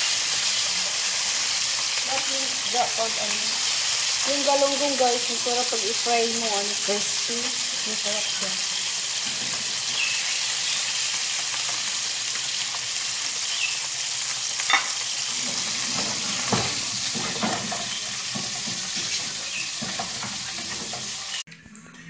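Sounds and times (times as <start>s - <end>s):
fish sizzling in oil: 0.0s - 21.5s.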